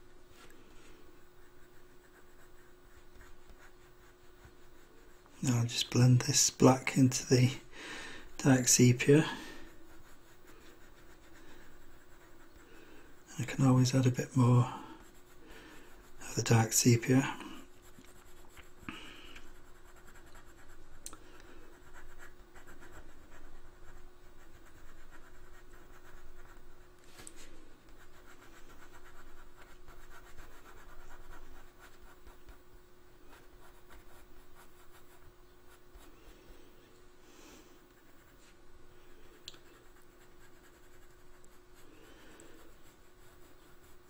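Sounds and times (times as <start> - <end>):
pencil scratching on paper: 0.9 - 7.7, 8.4 - 26.8, 27.4 - 36.2, 38.0 - 44.0.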